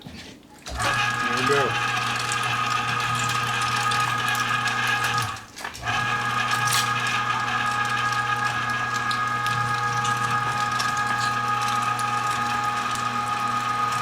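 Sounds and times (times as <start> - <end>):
electric meat grinder running: 0.7 - 14.0.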